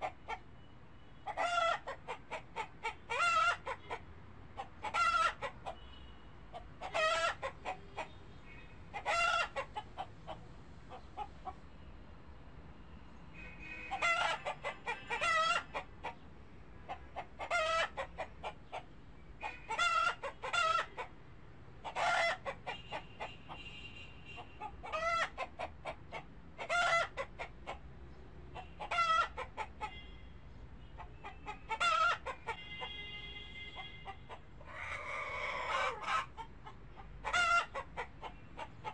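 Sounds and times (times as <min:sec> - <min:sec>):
chickens clucking: 0:00.0 - 0:00.5, 0:01.2 - 0:05.9, 0:06.5 - 0:08.2, 0:08.9 - 0:11.6, 0:13.9 - 0:21.2, 0:21.8 - 0:23.6, 0:24.4 - 0:30.0, 0:30.8 - 0:33.0, 0:33.7 - 0:38.9.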